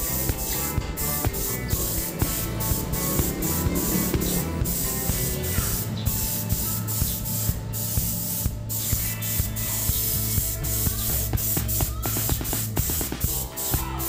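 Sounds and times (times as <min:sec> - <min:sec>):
paint spray gun hissing: 0:00.0 - 0:14.0.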